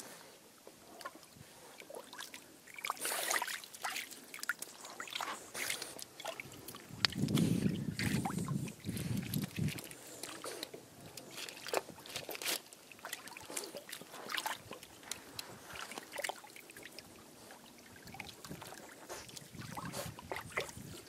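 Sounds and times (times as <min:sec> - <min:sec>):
shallow water splashing: 0:01.0 - 0:21.0.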